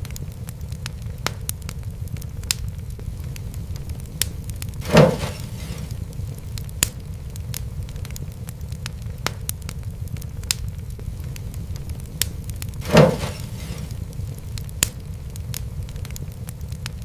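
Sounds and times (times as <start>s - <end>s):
fire crackling: 0.0s - 17.0s
sharp pops of fire: 0.0s - 17.0s.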